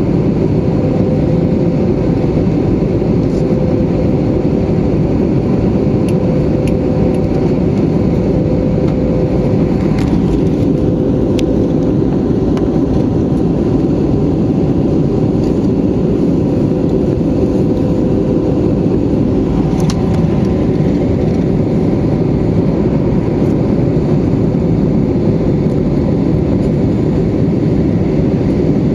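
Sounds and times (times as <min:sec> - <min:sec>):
airplane cabin engine roar: 0:00.0 - 0:28.9.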